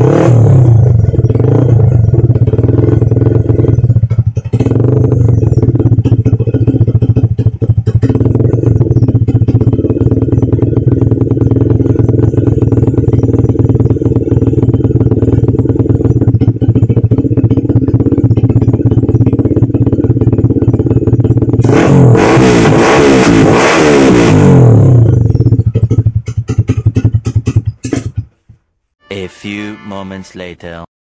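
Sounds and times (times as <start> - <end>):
motorcycle engine idling loudly: 0.0 - 28.3.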